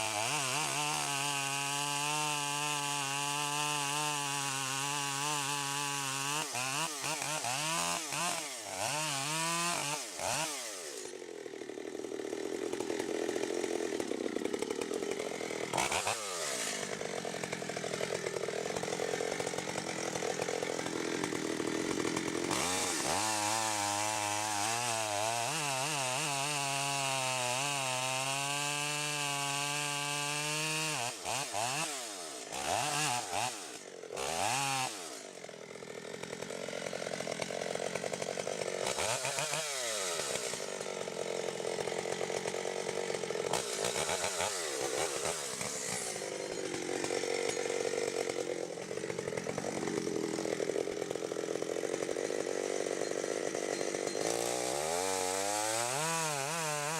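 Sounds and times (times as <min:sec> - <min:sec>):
chainsaw engine revving: 0:00.0 - 0:56.9.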